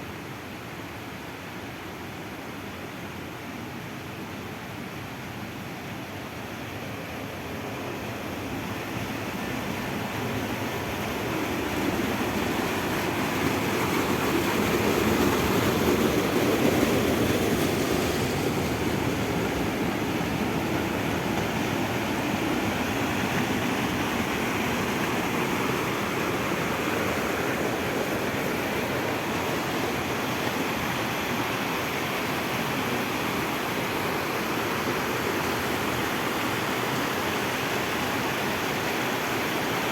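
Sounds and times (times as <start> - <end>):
steady rushing noise: 6.7 - 39.9.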